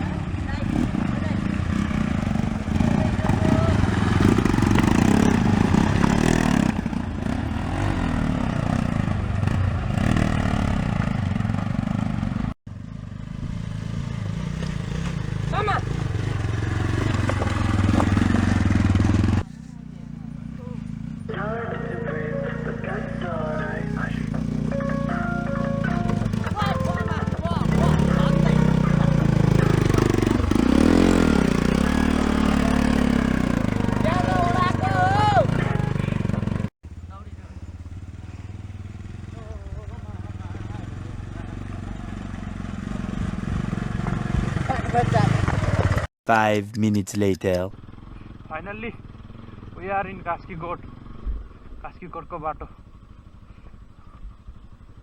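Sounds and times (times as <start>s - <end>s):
motorcycle engine revving off-road: 0.0s - 46.1s, 47.7s - 55.0s.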